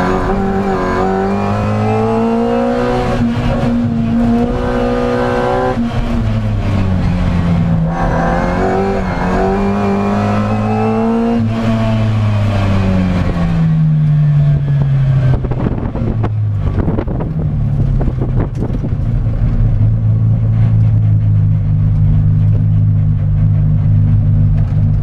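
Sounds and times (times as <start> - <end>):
car engine from inside cabin: 0.0 - 25.0.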